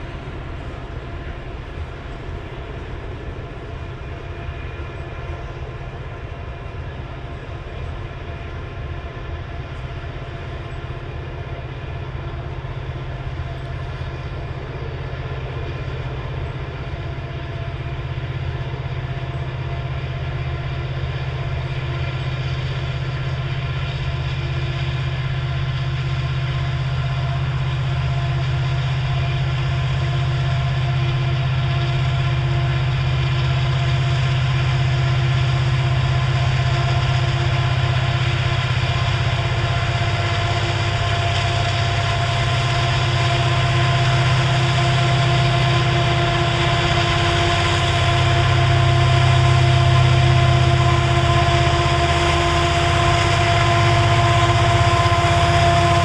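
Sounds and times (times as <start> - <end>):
diesel locomotives droning: 0.0 - 56.0
rumble of hopper cars: 0.0 - 56.0.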